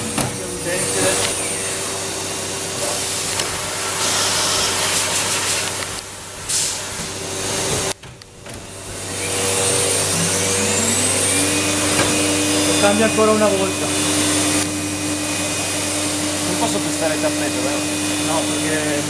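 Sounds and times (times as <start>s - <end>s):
machine hum: 0.0s - 19.0s
rising machine whine: 0.0s - 19.0s.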